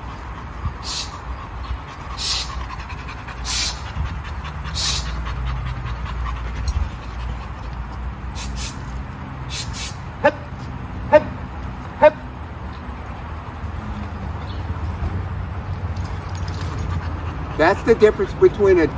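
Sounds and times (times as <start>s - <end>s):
dog breathing hard: 0.0s - 10.8s, 12.4s - 18.5s.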